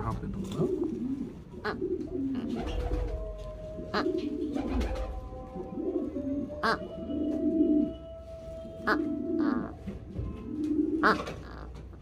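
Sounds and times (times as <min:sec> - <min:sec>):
pigeons cooing: 0:00.1 - 0:12.0.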